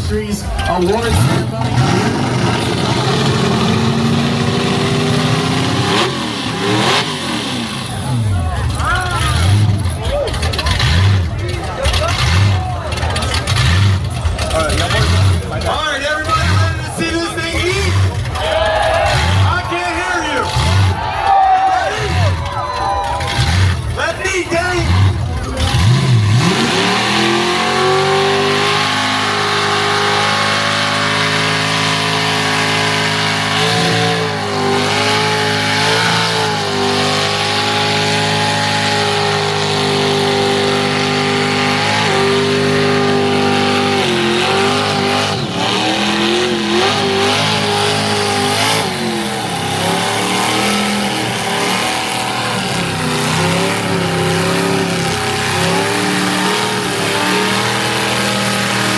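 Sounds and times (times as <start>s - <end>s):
car engine at high revs: 0.0s - 58.9s.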